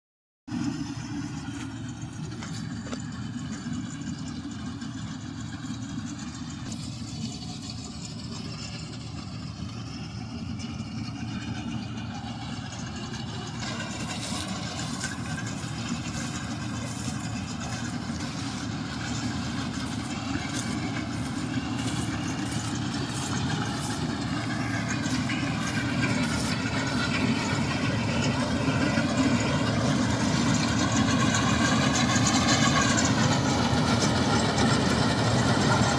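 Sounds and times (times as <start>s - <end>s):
combine harvester engine: 0.5s - 35.9s
machinery rattling: 0.5s - 35.9s.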